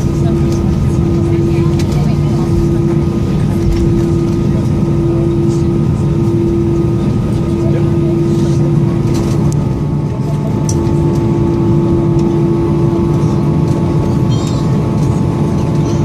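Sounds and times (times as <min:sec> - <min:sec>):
aircraft engine hum: 0:00.0 - 0:16.0.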